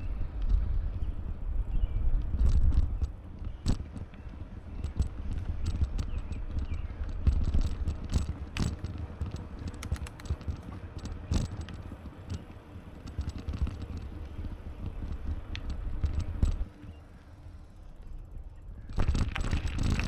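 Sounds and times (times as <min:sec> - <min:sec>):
bicycle clicks and rattles: 0:00.0 - 0:20.0
wind rumble on microphone: 0:00.0 - 0:20.0.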